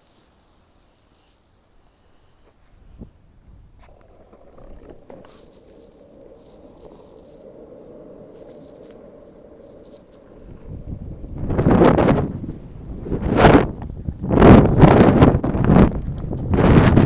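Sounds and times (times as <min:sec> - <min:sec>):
hollow hum: 0:00.0 - 0:17.0
wind buffeting microphone: 0:02.8 - 0:17.0.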